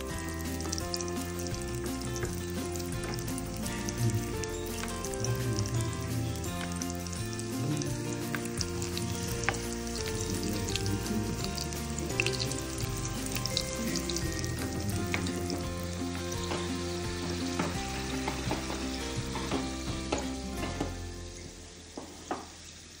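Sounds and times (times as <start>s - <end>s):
soft background music: 0.0s - 22.4s
dough sizzling in a pan: 0.0s - 23.0s.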